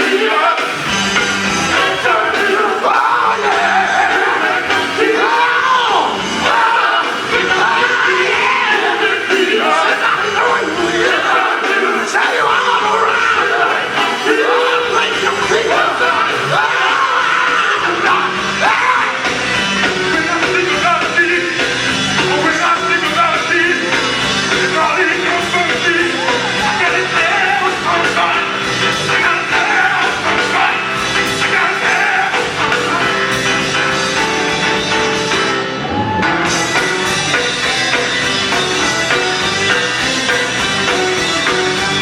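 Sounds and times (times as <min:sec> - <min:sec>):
group singing gospel: 0:00.0 - 0:38.2
band accompaniment: 0:00.0 - 0:42.0.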